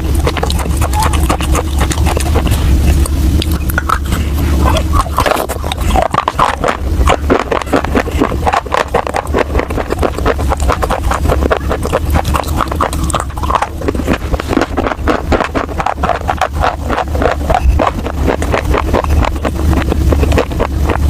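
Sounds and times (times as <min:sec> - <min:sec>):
chewing with rapid crunching: 0:00.0 - 0:21.0
steady low rumble: 0:00.0 - 0:21.0.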